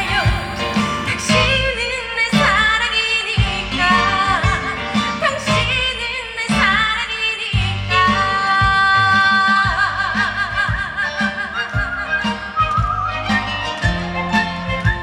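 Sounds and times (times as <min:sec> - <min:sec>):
woman singing: 0:00.0 - 0:13.8
bass and drum backing track: 0:00.0 - 0:15.0.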